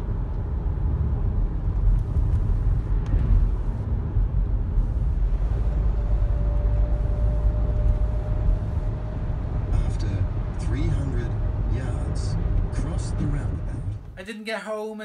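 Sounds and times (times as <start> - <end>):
car engine and tyre rumble: 0.0 - 14.2.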